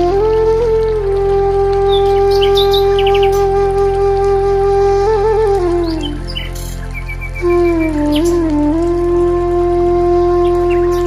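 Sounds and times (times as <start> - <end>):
flute-like slow melody: 0.0 - 11.0
low drone: 0.0 - 11.0.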